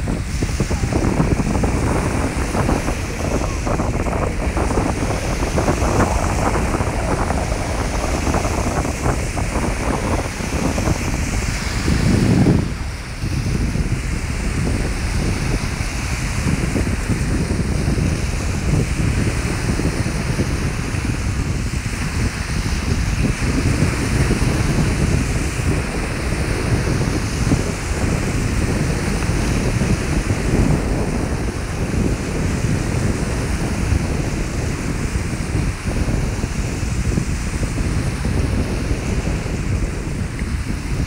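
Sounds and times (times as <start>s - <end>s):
waves washing onto sandy beach: 0.0s - 41.0s
wind buffeting microphone: 0.0s - 41.0s.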